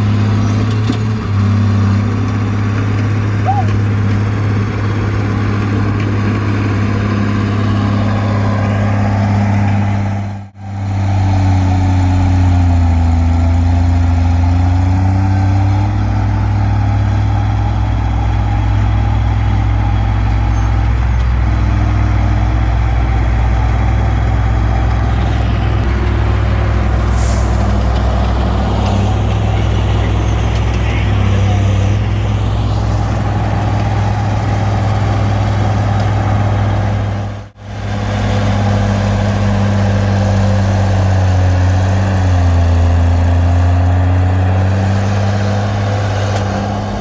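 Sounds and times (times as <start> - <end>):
bulldozer diesel engine droning: 0.0 - 47.0.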